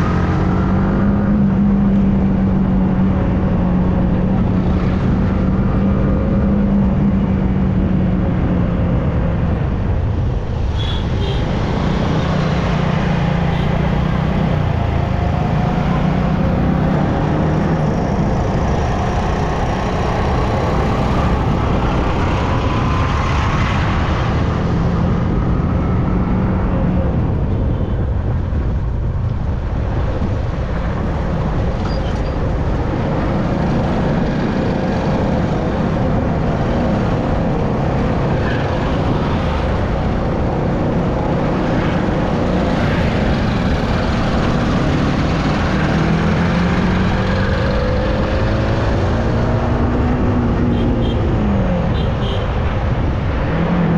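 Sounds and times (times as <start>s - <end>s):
road and wind noise: 0.0s - 53.9s.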